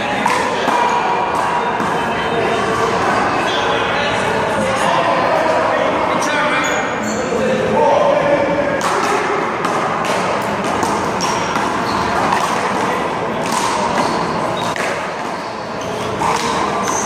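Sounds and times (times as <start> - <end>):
background chatter: 0.0 - 17.0.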